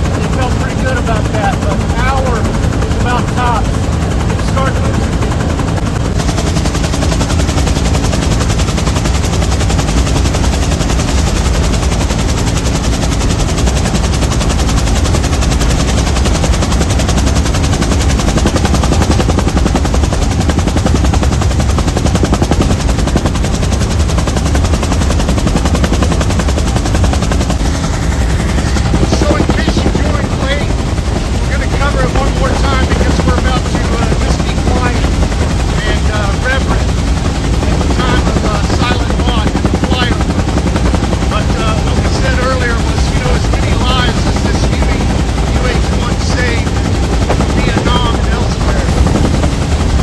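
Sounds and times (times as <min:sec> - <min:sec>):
helicopter rotor chop: 0:00.0 - 0:50.0
helicopter turbine noise: 0:00.0 - 0:50.0.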